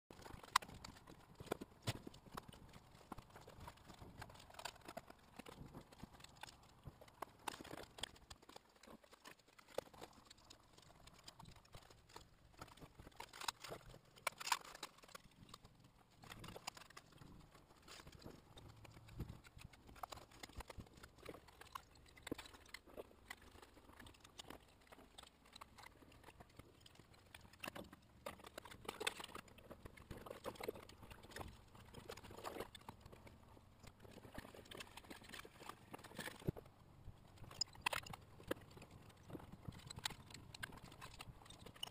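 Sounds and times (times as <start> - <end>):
tools and metal parts clicking: 0.1 - 41.9.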